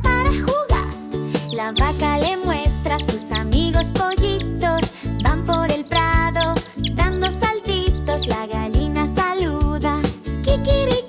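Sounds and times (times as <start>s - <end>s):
upbeat children's music: 0.0s - 11.0s.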